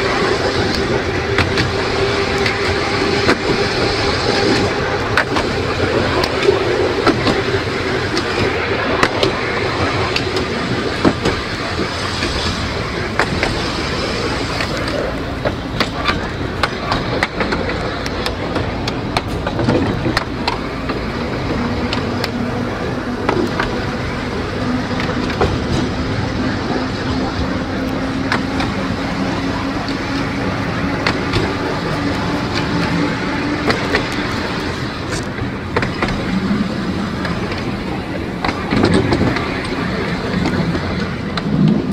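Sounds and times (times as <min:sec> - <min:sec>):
tram running rumble: 0:00.0 - 0:41.9
wheels clicking over rail joints: 0:00.0 - 0:41.9.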